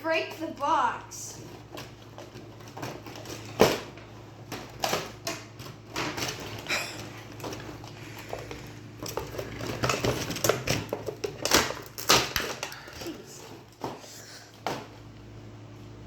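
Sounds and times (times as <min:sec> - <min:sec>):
packaging crackling and rustling: 0:01.3 - 0:15.2.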